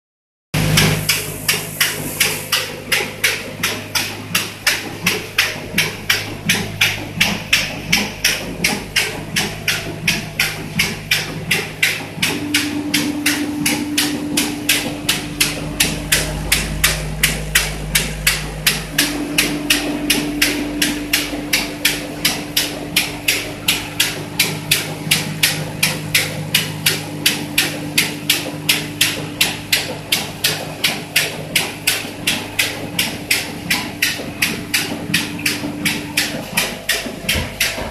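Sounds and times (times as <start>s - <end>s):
higher steady hum: 0.6s - 37.9s
motor hum: 0.6s - 37.9s.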